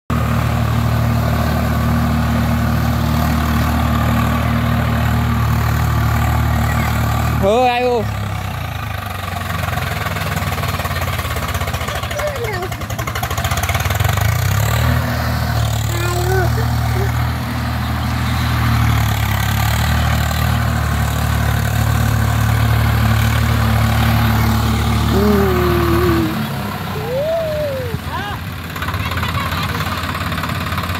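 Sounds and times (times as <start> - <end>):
tractor diesel engine running: 0.1 - 30.9.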